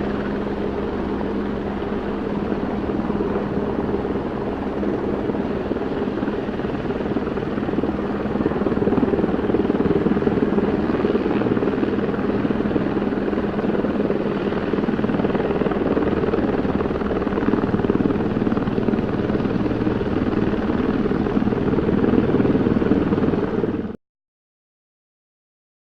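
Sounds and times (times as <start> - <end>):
helicopters hovering: 0.0 - 24.0.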